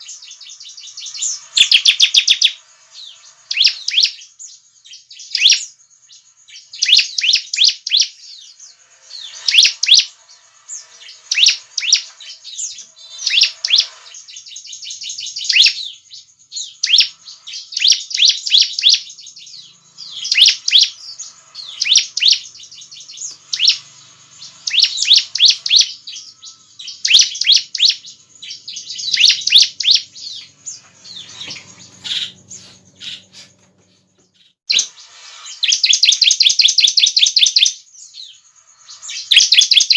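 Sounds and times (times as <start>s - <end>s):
bird singing sharp high chirps: 0.0s - 39.9s.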